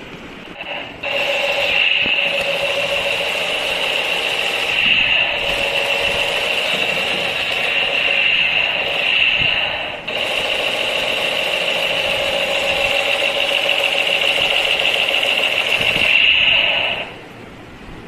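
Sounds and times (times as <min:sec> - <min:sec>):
toy machine gun sound effect: 0:00.6 - 0:17.2.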